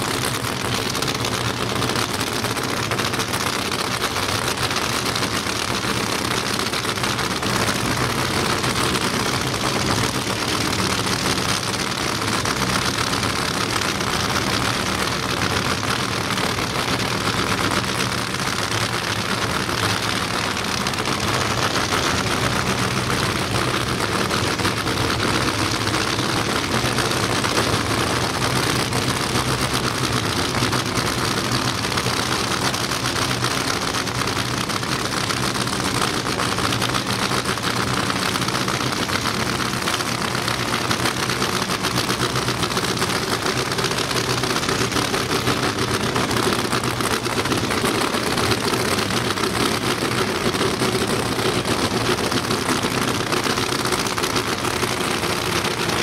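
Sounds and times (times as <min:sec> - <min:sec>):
car engines idling: 0:00.0 - 0:56.0.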